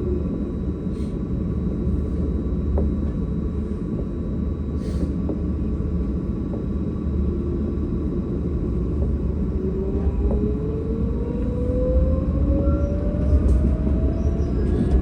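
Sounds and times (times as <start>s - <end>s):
rising tram whine: 0.0s - 15.0s
tram rumbling on rails: 0.0s - 15.0s.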